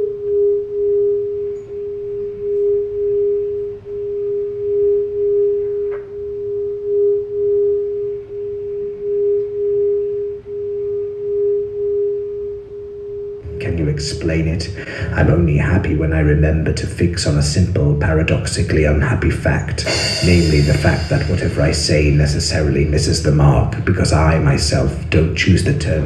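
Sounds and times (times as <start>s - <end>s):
sustained pure drone tone: 0.0s - 26.0s.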